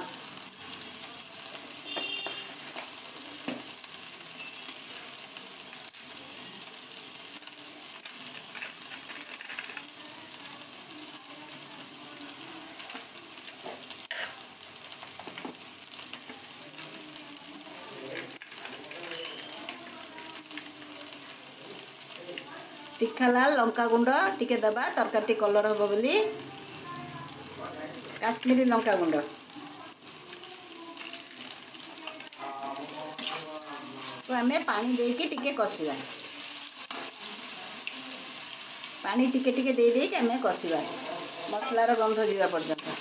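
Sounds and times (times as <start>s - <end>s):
spices sizzling in hot oil: 0.0s - 43.0s.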